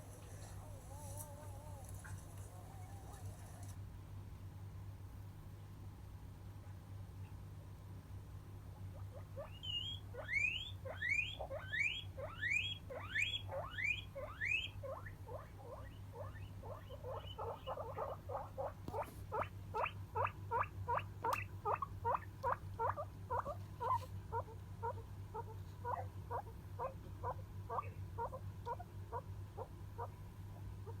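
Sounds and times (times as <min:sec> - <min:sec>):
guinea pig wheeking: 0:00.0 - 0:03.8, 0:08.9 - 0:30.2.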